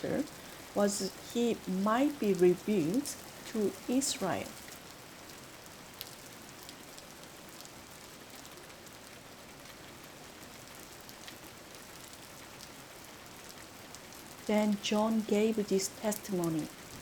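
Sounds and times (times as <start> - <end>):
raindrops ticking: 0.0 - 7.7, 10.7 - 17.0
rain falling: 0.0 - 17.0.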